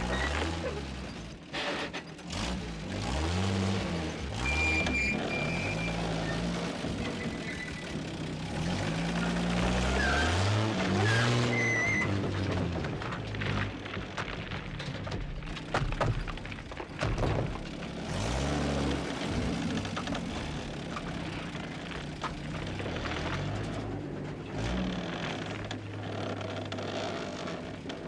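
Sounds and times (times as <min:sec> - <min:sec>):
truck engine revving: 0:00.0 - 0:14.1, 0:17.3 - 0:28.0.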